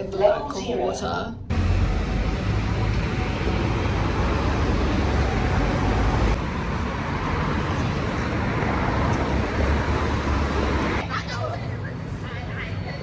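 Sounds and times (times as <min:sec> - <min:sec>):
deep traffic rumble: 0:01.4 - 0:13.0
cars passing: 0:01.5 - 0:13.0.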